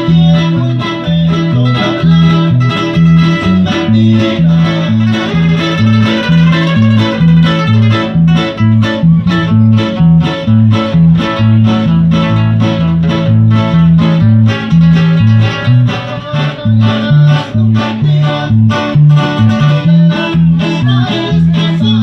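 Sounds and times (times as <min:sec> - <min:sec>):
bouncing bass line: 0:00.0 - 0:22.0
plucked guitar notes: 0:00.0 - 0:22.0.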